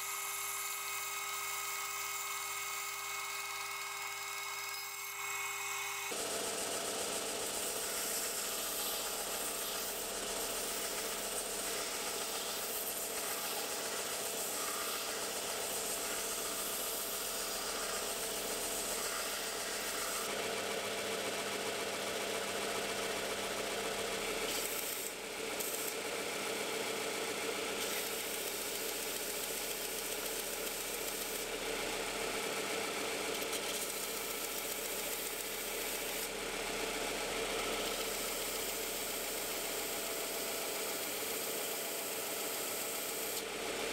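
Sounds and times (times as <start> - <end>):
belt sander motor hum: 0.0 - 36.4.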